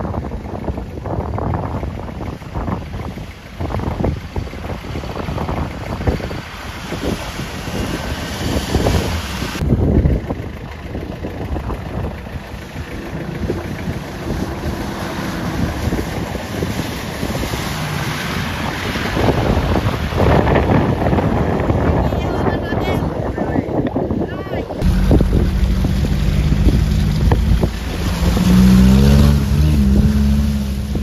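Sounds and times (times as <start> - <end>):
off-road vehicle driving: 0.0 - 31.0
wind buffeting microphone: 0.0 - 31.0.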